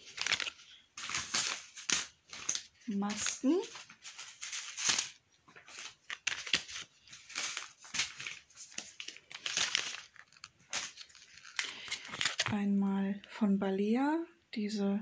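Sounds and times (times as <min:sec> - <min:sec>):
packaging crinkling and rustling: 0:00.0 - 0:12.6.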